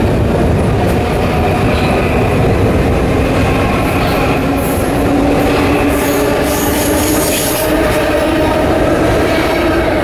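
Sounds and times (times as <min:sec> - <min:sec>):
train running on rails: 0:00.0 - 0:10.0.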